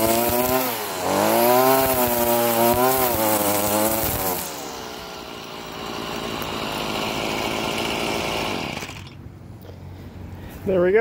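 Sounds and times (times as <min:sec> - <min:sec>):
string trimmer engine revving: 0:00.0 - 0:09.2.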